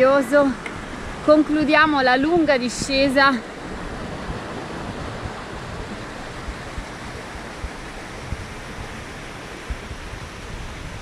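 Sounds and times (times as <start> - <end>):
stream rushing over rocks: 0.0 - 11.0
wind buffeting microphone: 0.0 - 11.0.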